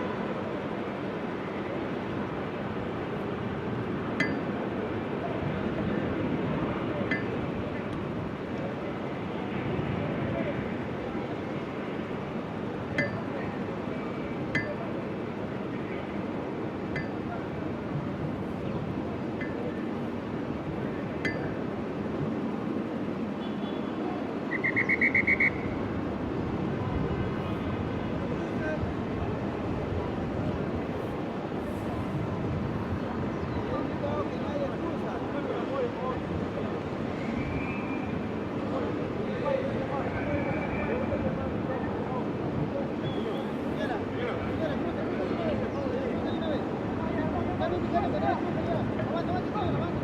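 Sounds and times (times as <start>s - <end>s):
city street hubbub: 0.0s - 50.0s
urban background noise: 0.0s - 50.0s.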